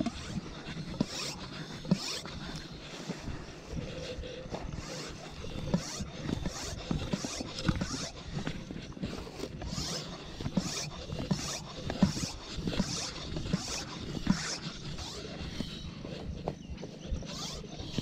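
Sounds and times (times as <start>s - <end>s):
hand pump hissing and thumping: 0.0s - 18.0s.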